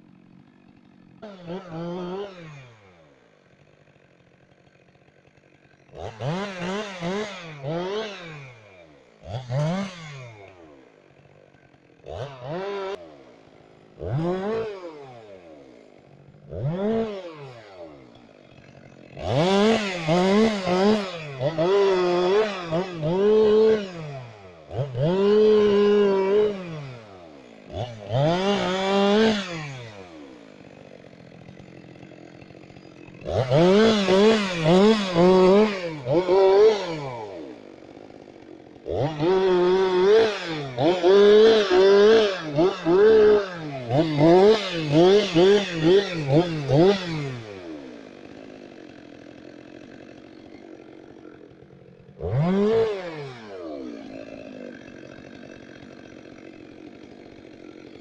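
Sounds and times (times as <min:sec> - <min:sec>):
chainsaw revving and cutting: 0:00.0 - 0:58.0.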